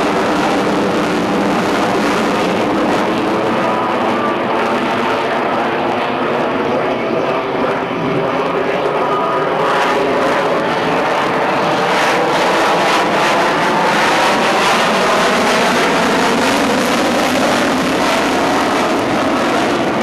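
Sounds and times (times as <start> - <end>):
jet flying overhead: 0.0 - 20.0.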